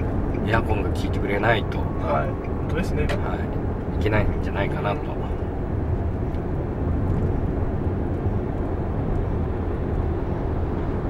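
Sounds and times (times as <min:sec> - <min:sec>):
car engine running: 0:00.0 - 0:11.0
road and tyre rumble: 0:00.0 - 0:11.0.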